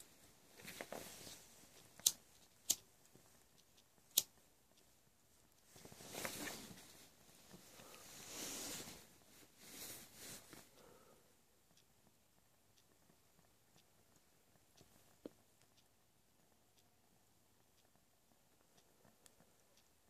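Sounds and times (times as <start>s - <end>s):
soft rushing of stove flame: 0.0s - 19.7s
sharp ticks from stove: 1.0s - 6.1s, 9.0s - 20.0s.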